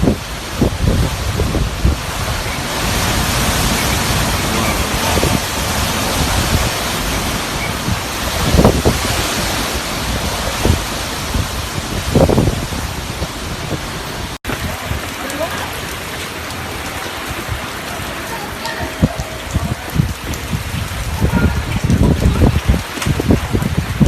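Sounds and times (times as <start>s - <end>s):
rain and wind rushing hiss: 0.0s - 24.0s
wind gusts buffeting microphone: 0.0s - 24.0s.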